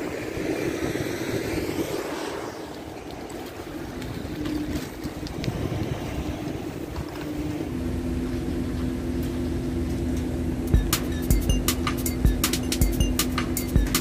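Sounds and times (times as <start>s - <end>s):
low machine drone: 0.0s - 13.9s.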